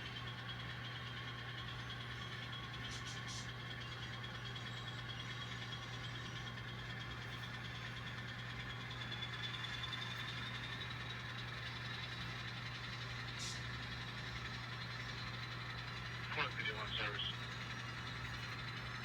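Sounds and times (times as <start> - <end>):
model locomotive diesel engine sound: 0.0 - 19.0.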